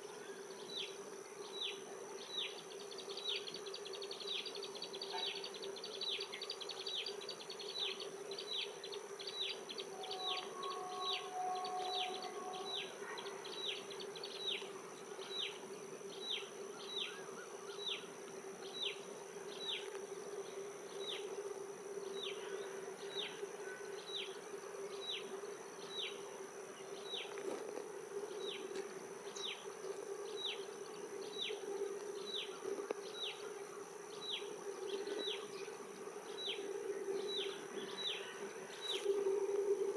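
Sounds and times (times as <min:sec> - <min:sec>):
insect-like buzz: 0:00.0 - 0:39.9.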